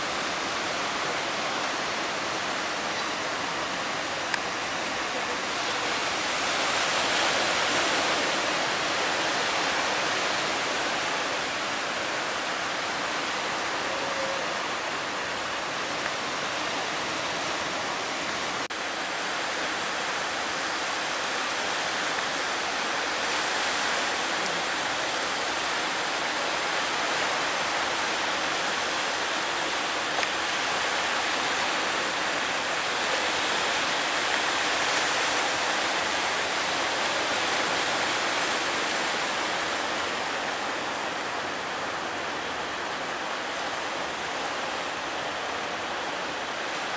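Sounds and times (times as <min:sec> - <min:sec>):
sea waves breaking: 0:00.0 - 0:46.9.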